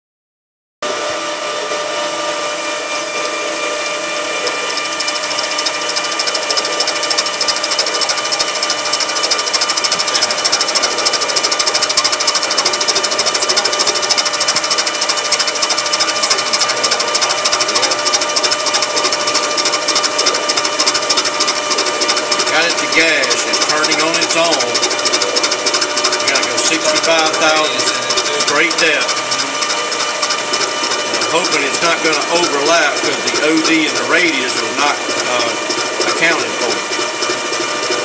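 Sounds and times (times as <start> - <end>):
metal lathe whining: 0.8 - 38.0
rapid ticking of cutting: 2.3 - 38.0.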